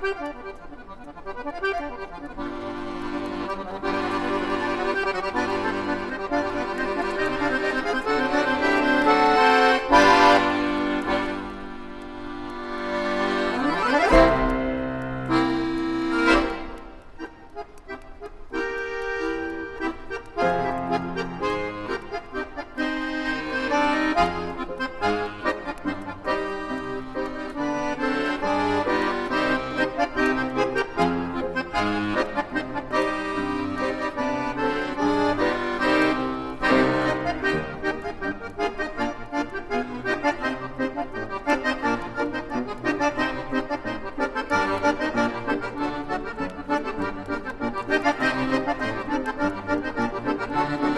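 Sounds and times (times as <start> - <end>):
electronic keyboard pop melody: 0.0 - 50.9.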